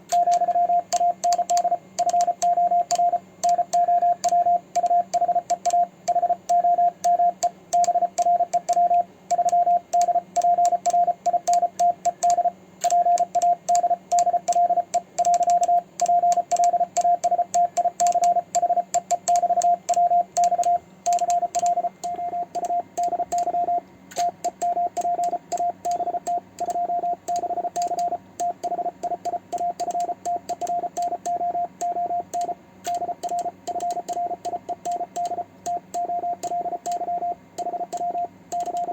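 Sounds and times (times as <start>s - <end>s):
noisy receiver hiss: 0.0s - 38.9s
morse code tone: 0.1s - 38.9s.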